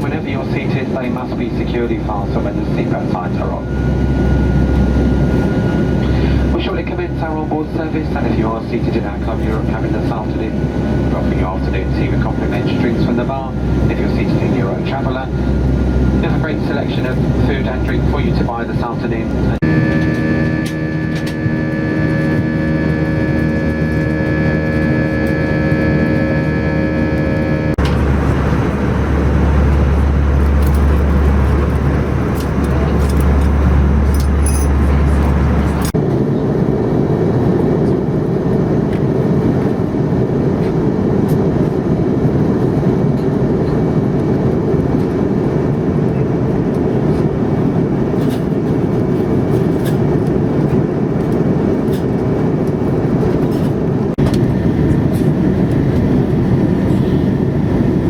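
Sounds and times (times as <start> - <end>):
airliner cabin roar: 0.0 - 58.0
strong low hum: 0.0 - 58.0.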